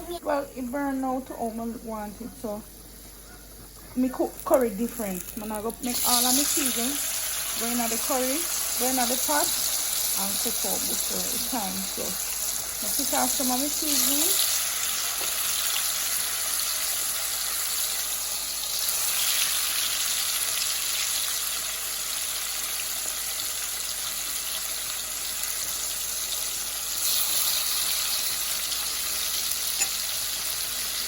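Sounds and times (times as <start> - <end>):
sizzling in hot oil: 4.0 - 31.0.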